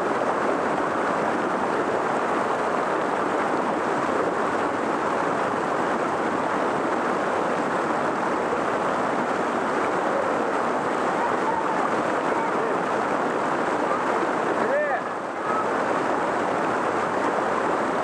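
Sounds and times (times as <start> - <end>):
creek rushing over rocks: 0.0 - 18.0.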